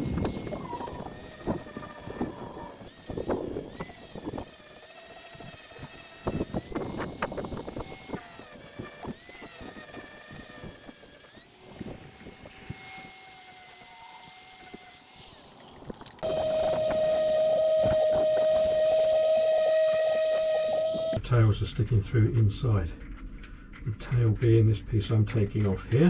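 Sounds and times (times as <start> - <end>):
angle grinder grinding metal: 0.0 - 21.2.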